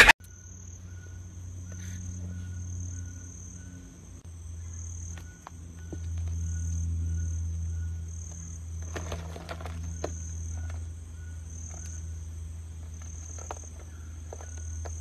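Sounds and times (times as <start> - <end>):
low steady hum: 0.0 - 15.0
lower insect call: 0.0 - 15.0
insect high-pitched trill: 0.2 - 15.0.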